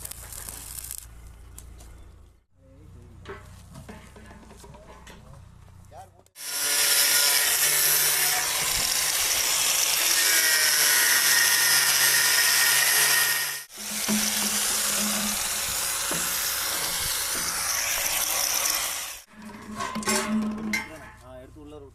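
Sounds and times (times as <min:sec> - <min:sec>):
hissing crackling metalworking noise: 0:00.0 - 0:01.2, 0:03.2 - 0:21.3.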